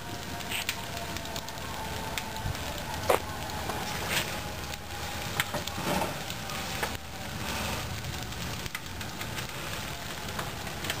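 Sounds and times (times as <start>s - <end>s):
fire crackling and hissing: 0.0s - 11.0s.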